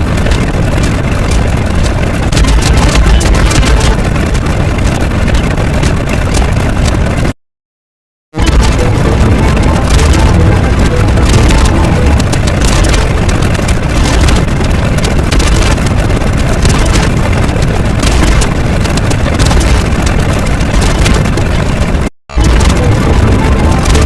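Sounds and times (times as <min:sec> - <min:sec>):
loud bassy rumbling: 0:00.0 - 0:07.3, 0:08.4 - 0:24.0.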